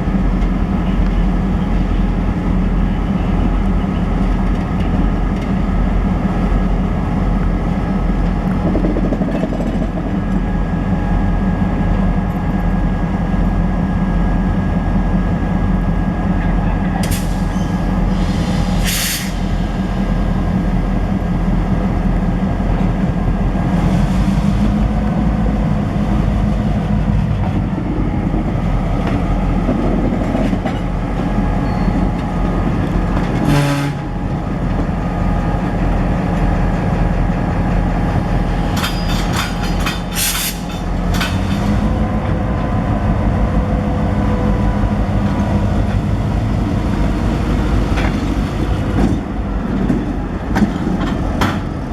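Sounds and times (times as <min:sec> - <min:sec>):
diesel locomotive engine running: 0:00.0 - 0:51.9.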